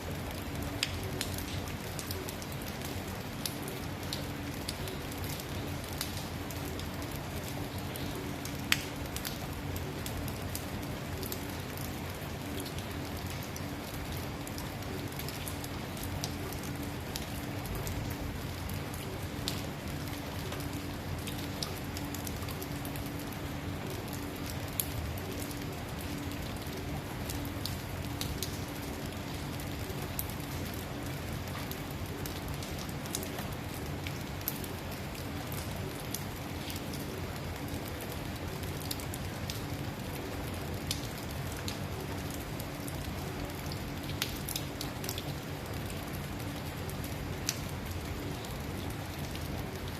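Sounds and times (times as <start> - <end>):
rain falling on a road: 0.0 - 49.9.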